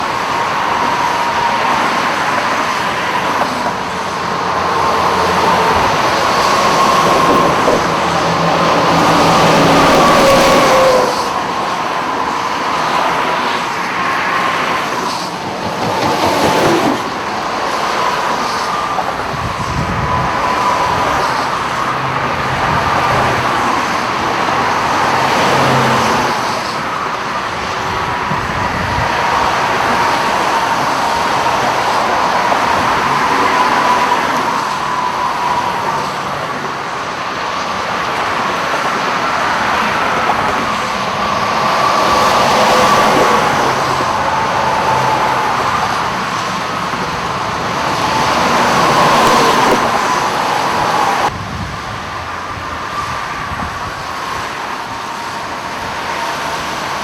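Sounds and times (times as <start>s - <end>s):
vehicles passing through water: 0.0s - 57.0s.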